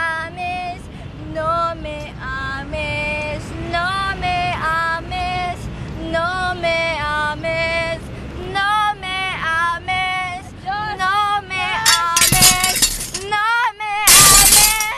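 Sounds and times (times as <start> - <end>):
woman singing unaccompanied: 0.0 - 14.9.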